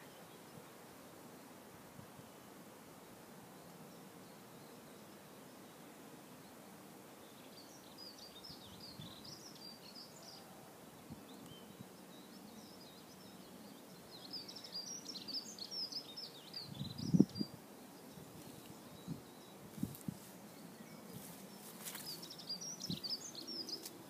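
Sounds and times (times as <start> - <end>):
faint outdoor hiss: 0.0 - 24.0
songbird chirping: 0.0 - 24.0.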